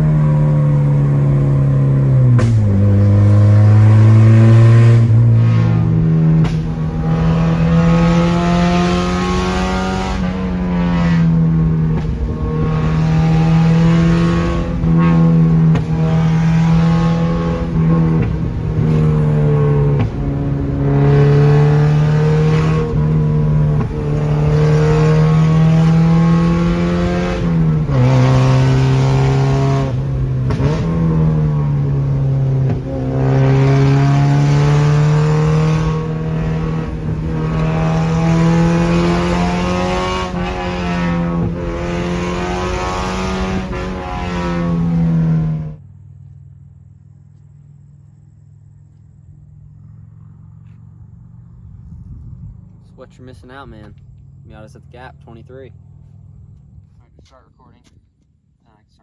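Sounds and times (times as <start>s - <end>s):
loud car engine exhaust: 0.0s - 58.8s.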